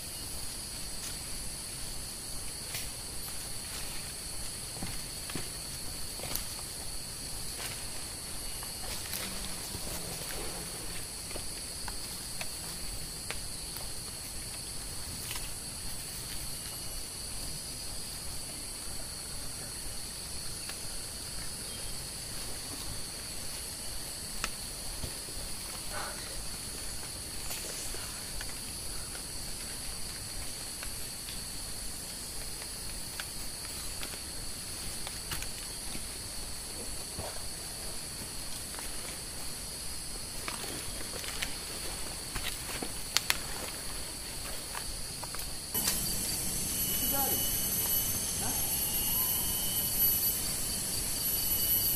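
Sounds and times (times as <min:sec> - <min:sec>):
faint ticks and rustles: 0:00.0 - 0:46.0
high-pitched insect drones: 0:00.0 - 0:51.9.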